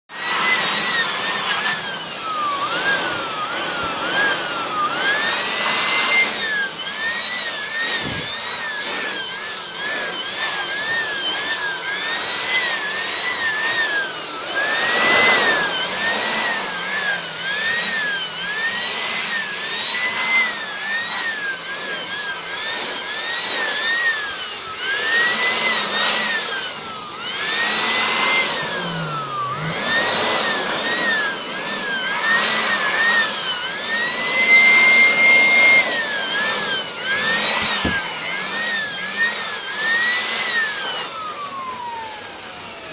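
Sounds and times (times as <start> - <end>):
vacuum cleaner whine: 0.0 - 42.9.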